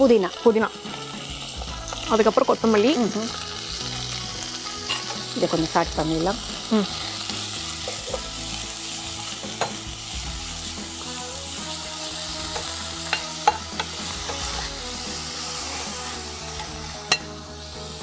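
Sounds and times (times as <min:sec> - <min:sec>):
leaves sizzling in oil: 0:00.0 - 0:18.0.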